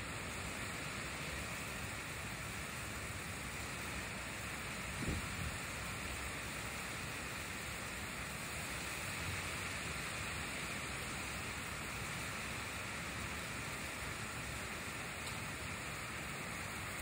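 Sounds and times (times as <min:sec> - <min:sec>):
heavy rain hissing: 0:00.0 - 0:17.0
water streaming off roof edge: 0:00.0 - 0:17.0.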